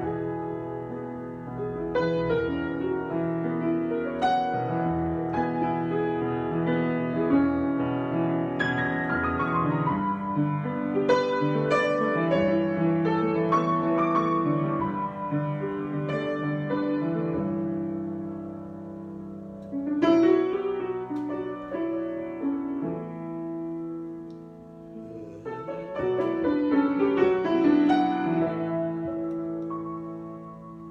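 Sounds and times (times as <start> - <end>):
solo piano improvisation: 0.0 - 30.9.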